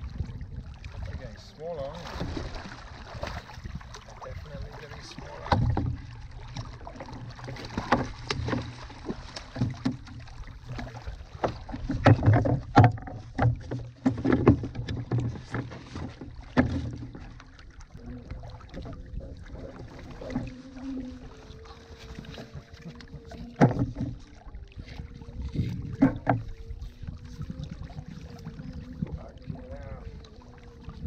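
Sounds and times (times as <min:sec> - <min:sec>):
low rumble of water and air: 0:00.0 - 0:31.0.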